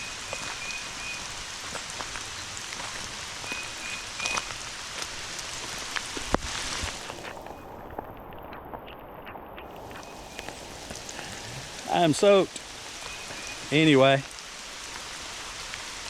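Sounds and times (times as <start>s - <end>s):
heavy rain hissing: 0.0s - 16.0s
rain drop ticks: 0.0s - 16.0s.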